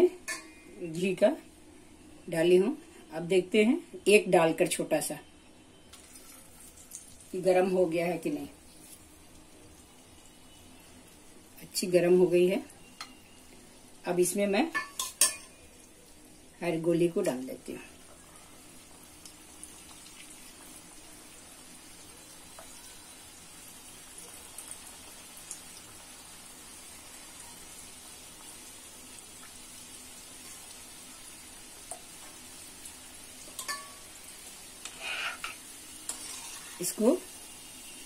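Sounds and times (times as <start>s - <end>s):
balls frying in hot ghee: 0.0s - 38.0s.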